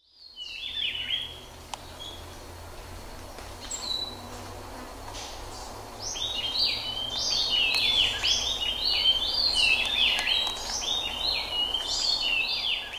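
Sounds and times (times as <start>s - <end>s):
birds chirping rapidly: 0.0s - 2.6s, 3.5s - 4.4s, 5.4s - 12.9s
steady background hiss: 0.1s - 12.9s.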